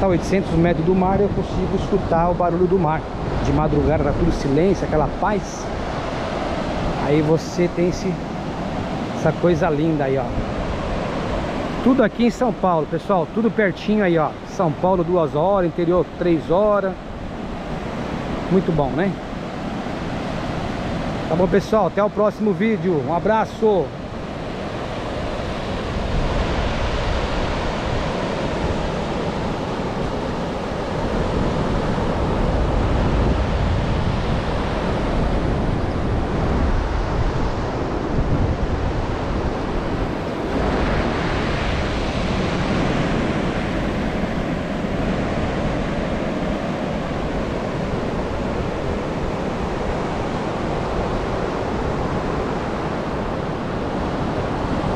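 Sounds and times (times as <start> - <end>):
ocean surf washing onto beach: 0.0 - 54.9
wind rumbling on microphone: 0.0 - 54.9.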